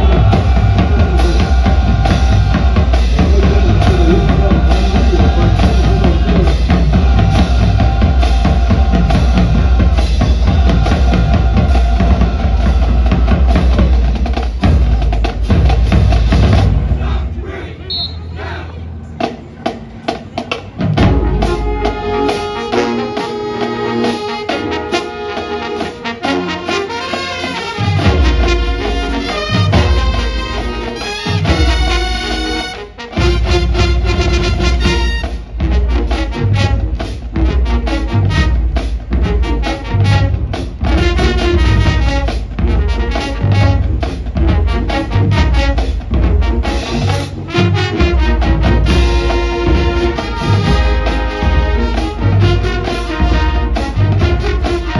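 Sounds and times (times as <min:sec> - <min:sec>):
brass marching band: 0:00.0 - 0:54.9
marching drums: 0:00.0 - 0:54.9.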